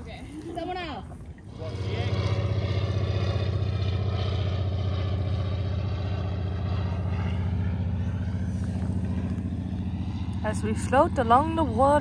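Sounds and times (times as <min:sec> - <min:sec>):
motorboat engine pulsing: 0:00.0 - 0:12.0.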